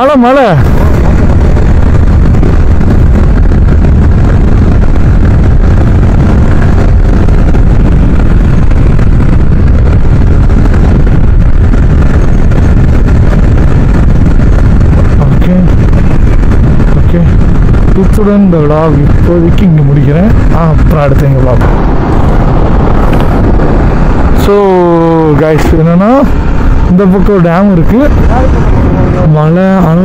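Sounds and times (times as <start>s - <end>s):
motorcycle road noise: 0.0s - 30.0s
wind rush: 0.0s - 30.0s.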